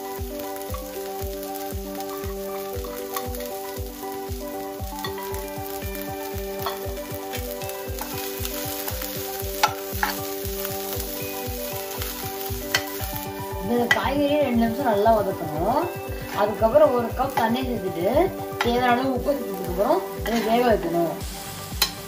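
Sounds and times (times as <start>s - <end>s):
background music with steady beat: 0.0s - 22.0s
vegetables sizzling in a pan: 0.0s - 22.0s.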